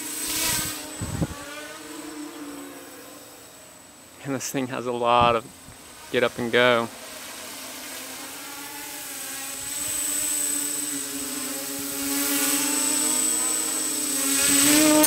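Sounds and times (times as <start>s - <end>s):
quadcopter motors buzzing: 0.0s - 4.2s, 4.9s - 15.0s.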